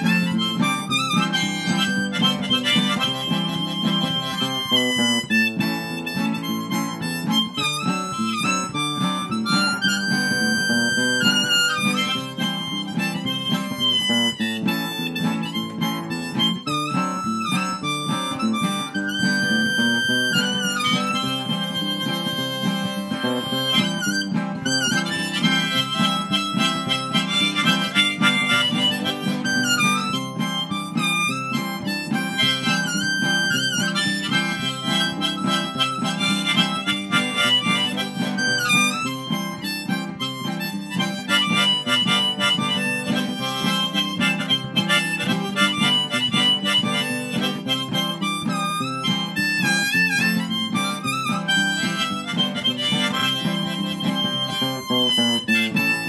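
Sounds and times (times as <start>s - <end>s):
acoustic guitar accompaniment: 0.0s - 56.0s
harmonica playing: 0.0s - 56.0s.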